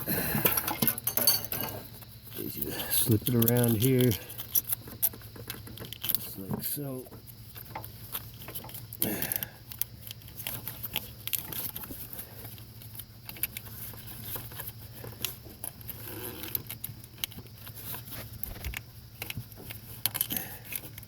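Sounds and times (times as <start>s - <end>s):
small clicks and rattles of wire cover: 0.0s - 21.0s
steady low hum: 0.0s - 21.0s.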